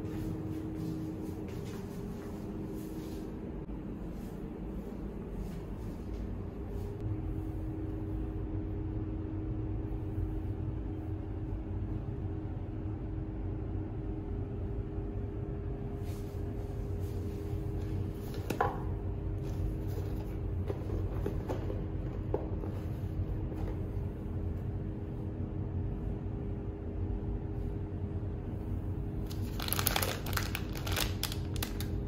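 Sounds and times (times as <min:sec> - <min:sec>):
ventilation fan hum: 0:00.0 - 0:32.0.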